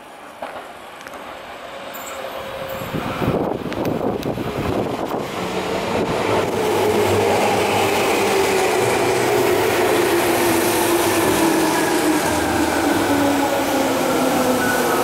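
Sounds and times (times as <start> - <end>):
train wheels rumbling on rails: 0.2 - 15.0.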